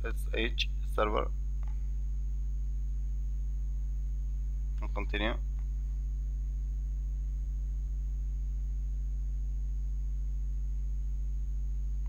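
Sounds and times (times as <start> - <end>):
faint high whine: 0.0 - 12.0
low electrical hum: 0.0 - 12.0.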